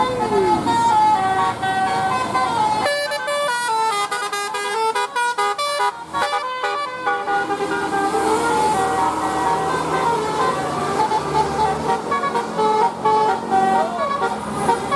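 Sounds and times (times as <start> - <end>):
musical bus horn playing tune: 0.0 - 14.9.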